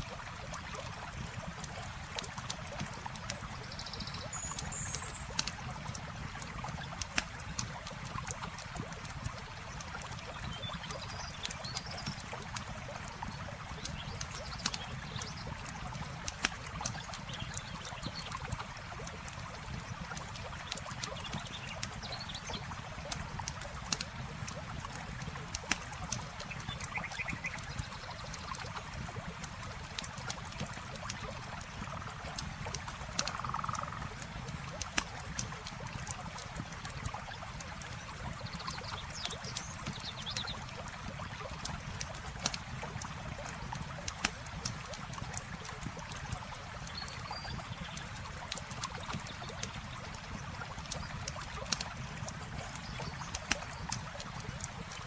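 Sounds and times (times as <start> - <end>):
campfire crackling and popping: 0.0 - 3.7, 4.6 - 55.0
river water flowing: 0.0 - 55.0.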